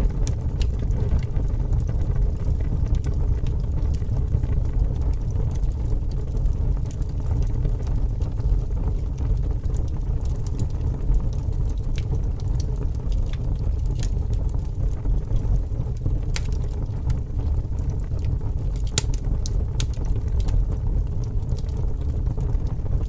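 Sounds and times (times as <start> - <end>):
bonfire crackling and popping: 0.0 - 23.0
low fire rumble: 0.0 - 23.0.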